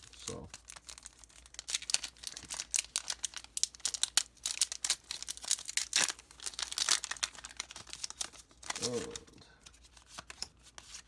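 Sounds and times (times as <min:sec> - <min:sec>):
packaging torn and crinkled: 0:00.0 - 0:09.4.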